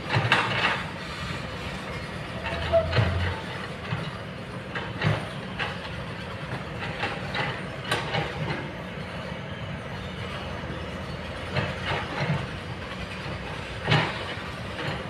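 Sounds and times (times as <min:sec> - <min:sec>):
excavator clanks and knocks: 0:00.0 - 0:15.0
excavator diesel engine: 0:00.0 - 0:15.0.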